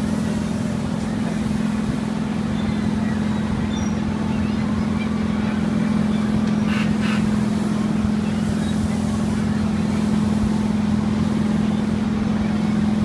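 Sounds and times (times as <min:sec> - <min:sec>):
loud steady machine hum: 0:00.0 - 0:13.0.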